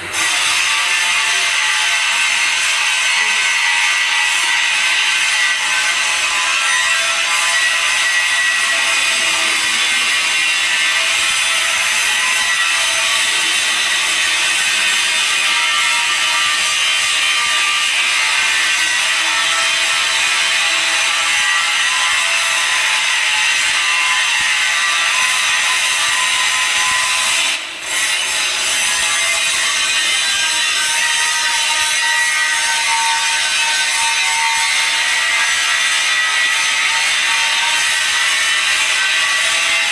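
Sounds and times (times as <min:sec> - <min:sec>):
welding arc crackling hiss: 0:00.1 - 0:39.9.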